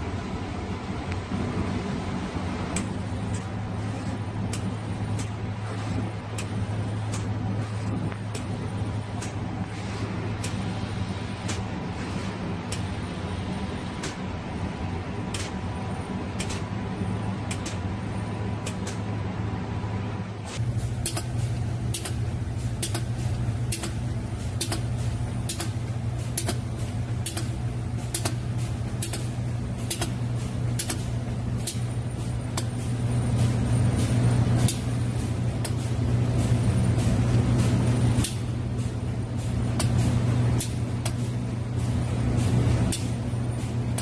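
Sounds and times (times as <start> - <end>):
mechanical hum: 0.0 - 44.0.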